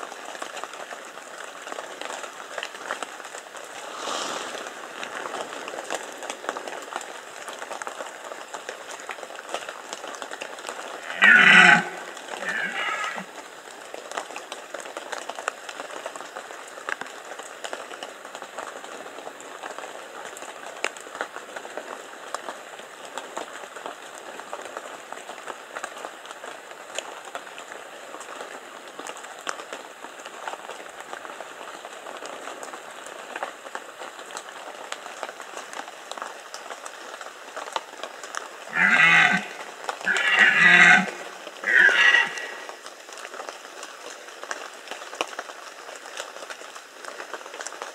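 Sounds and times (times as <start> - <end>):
light rain pattering: 0.0 - 47.9.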